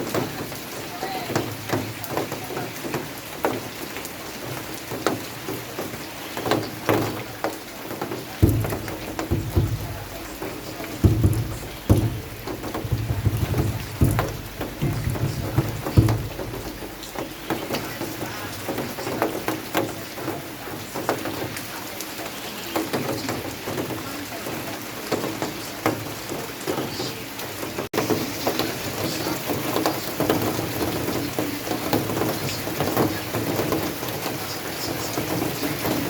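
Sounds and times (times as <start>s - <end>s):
rain falling: 0.0s - 36.0s
raindrops tapping on a surface: 0.0s - 36.0s.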